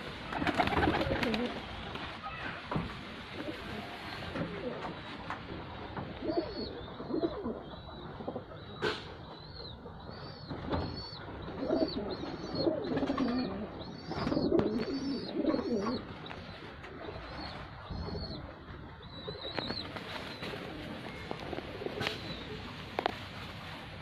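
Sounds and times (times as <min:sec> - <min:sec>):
pigeons cooing: 0:00.0 - 0:01.9, 0:03.3 - 0:22.9.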